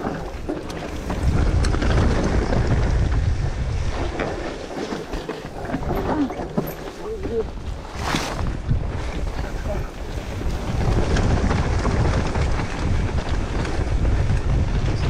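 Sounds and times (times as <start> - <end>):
bike clicks and rattles: 0.0 - 15.0
tyres rolling on rocky trail: 0.0 - 15.0
wind buffeting microphone: 0.0 - 15.0.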